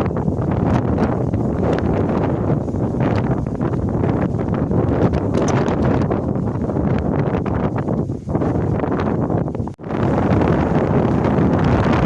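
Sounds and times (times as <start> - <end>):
storm wind on microphone: 0.0 - 12.0.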